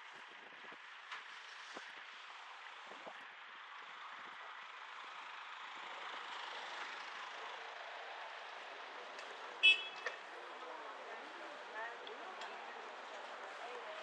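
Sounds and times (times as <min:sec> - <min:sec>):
street noise: 0:00.0 - 0:14.0
wind: 0:00.0 - 0:14.0.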